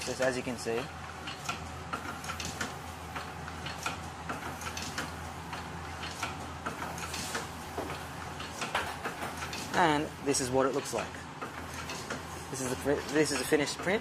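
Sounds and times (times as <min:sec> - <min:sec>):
small machinery clicking: 0:00.0 - 0:14.0
steady low hum: 0:00.0 - 0:14.0.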